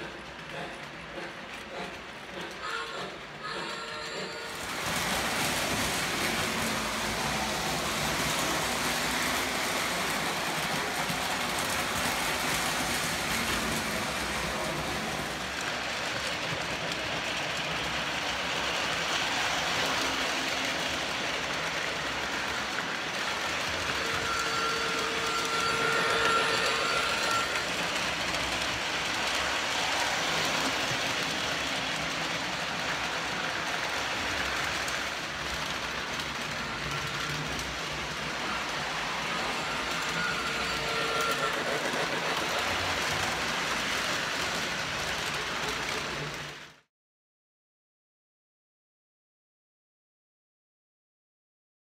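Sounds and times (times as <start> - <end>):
model train rolling rattle: 0.0 - 46.8.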